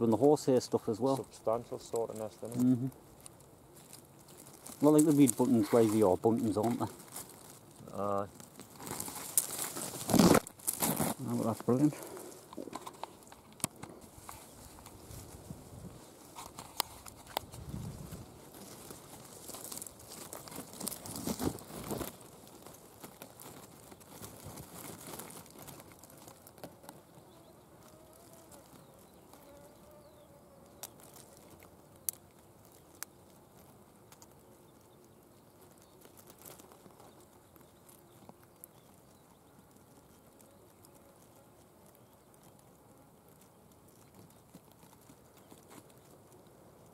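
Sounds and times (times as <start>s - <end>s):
leaves and grass rustling: 0.0s - 46.9s.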